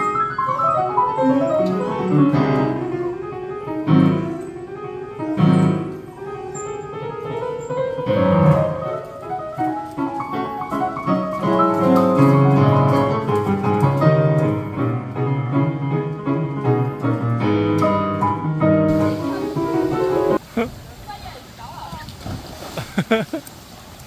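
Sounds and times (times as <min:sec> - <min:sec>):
digital piano playing: 0:00.0 - 0:20.4.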